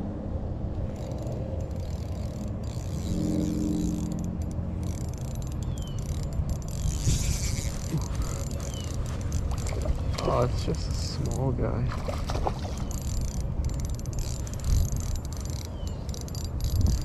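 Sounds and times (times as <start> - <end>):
fishing reel gears whirring: 0.8 - 11.8, 12.4 - 17.0.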